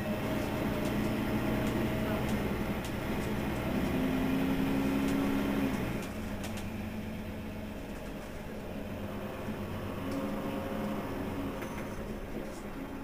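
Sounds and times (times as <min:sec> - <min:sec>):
bus engine idling hum: 0:00.0 - 0:13.0.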